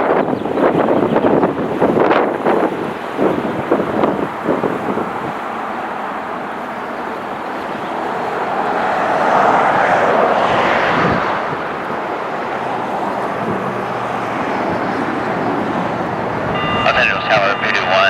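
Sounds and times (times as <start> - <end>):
jet airliner passing by: 0.0 - 18.0.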